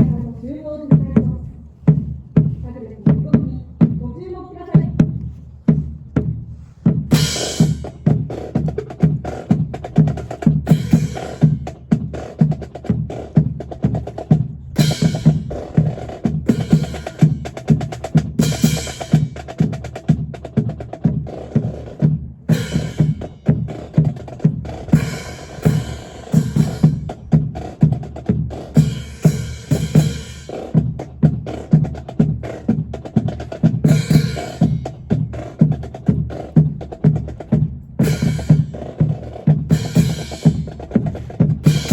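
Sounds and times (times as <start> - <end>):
bass drum beats: 0.0 - 41.9
snare drum: 4.9 - 41.9.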